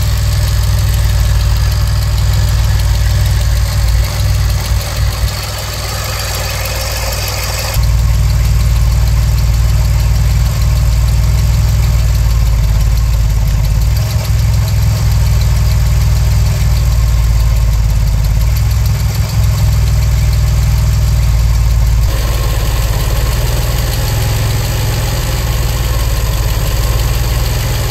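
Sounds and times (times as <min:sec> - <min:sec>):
car engine idling: 0:00.0 - 0:27.9
exhaust blowing: 0:00.0 - 0:27.9.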